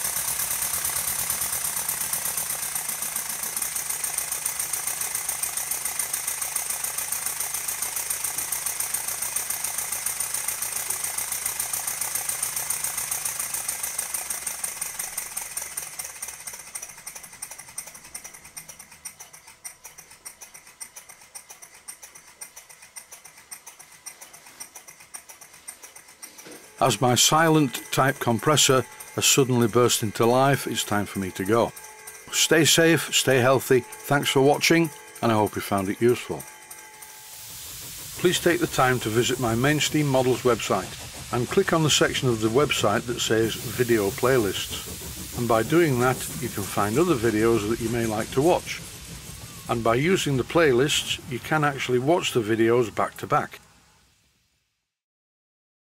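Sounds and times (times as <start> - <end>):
model steam engine puffing and knocking: 0.0 - 53.7.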